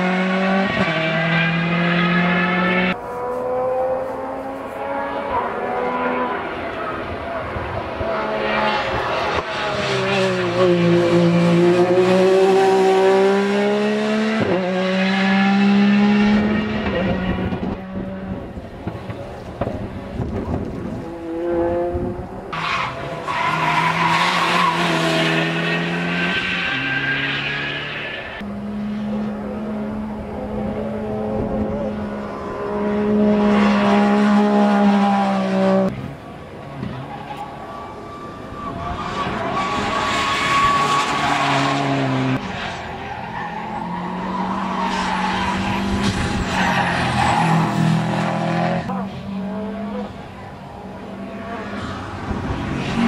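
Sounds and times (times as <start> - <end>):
rally car engine at high revs: 0.0 - 37.5, 38.5 - 53.0
tyre and road noise: 0.0 - 53.0.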